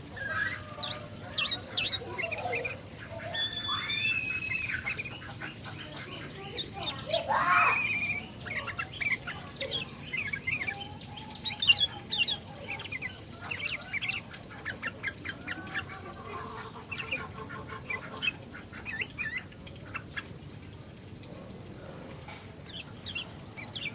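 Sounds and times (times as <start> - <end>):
bird chirping and chattering: 0.1 - 20.8, 22.6 - 23.9.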